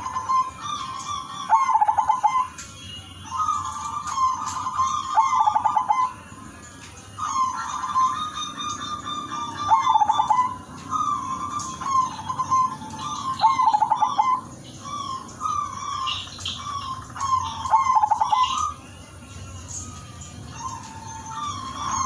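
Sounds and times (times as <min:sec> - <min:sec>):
dove cooing with rolling trill: 0:00.0 - 0:22.0
small birds chirping: 0:00.0 - 0:22.0.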